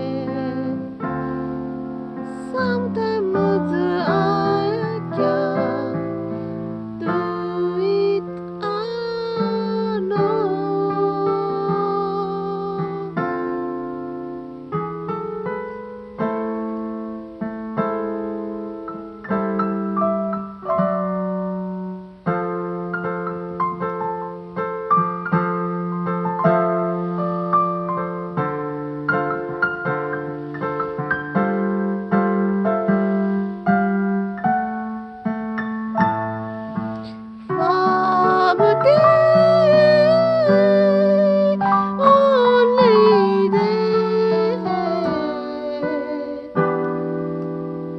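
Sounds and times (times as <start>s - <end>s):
piano chords ringing: 0.0s - 47.9s.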